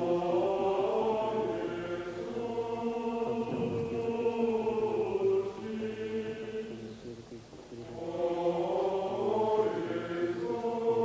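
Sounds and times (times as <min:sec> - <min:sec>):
choir singing slow chant: 0:00.0 - 0:11.0.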